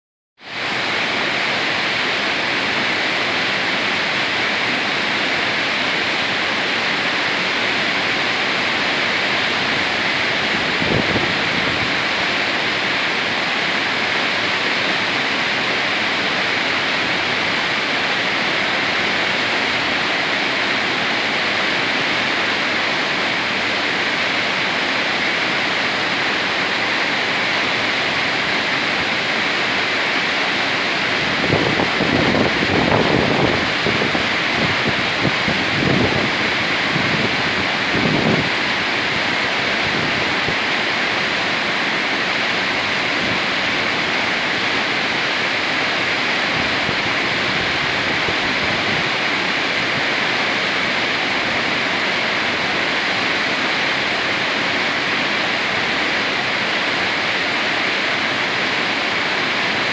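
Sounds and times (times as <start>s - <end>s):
waterfall rushing over rocks: 0.4s - 59.9s.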